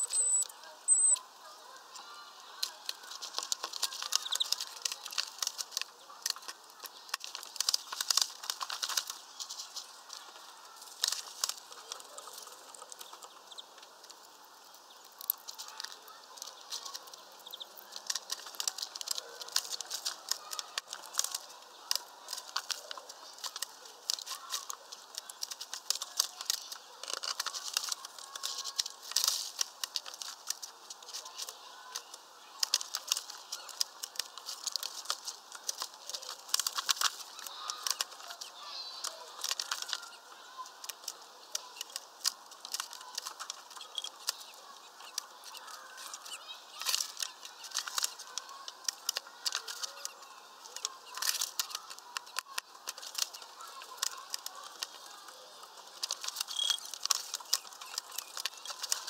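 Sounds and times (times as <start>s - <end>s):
birds pecking at feeder: 0.0s - 59.0s
wing flutters: 0.0s - 59.0s.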